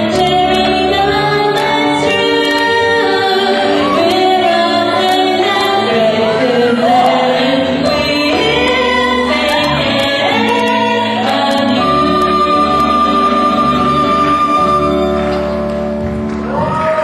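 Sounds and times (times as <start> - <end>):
choir singing: 0.0 - 15.3.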